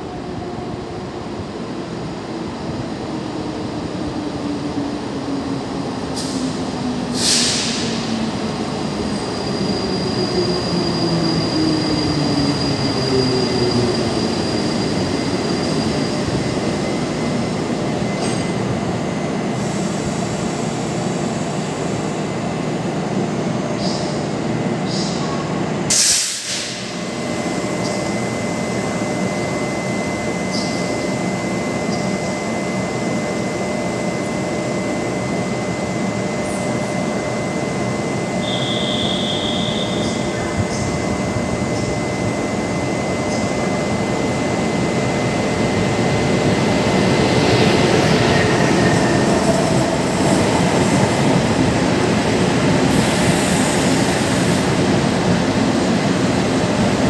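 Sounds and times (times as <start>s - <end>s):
locomotive humming with high whine: 0.0s - 57.0s
train running on rails: 0.0s - 57.0s.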